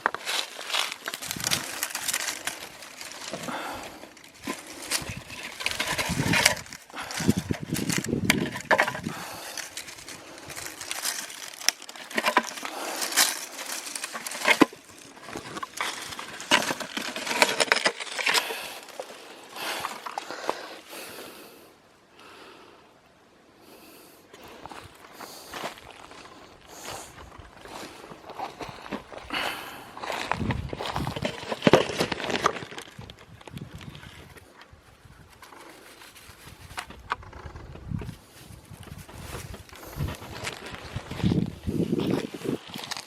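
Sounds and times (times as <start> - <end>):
litter crinkling and rustling: 0.0 - 20.8, 25.0 - 43.0.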